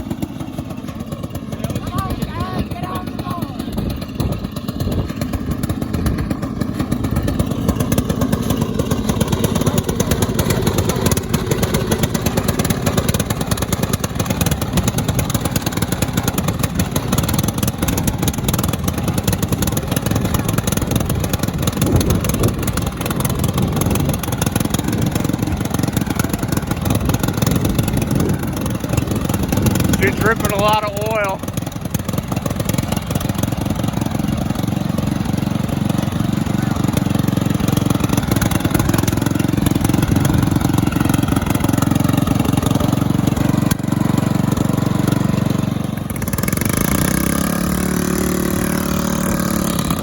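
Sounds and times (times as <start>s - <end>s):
lawnmower engine running: 0.0s - 50.0s.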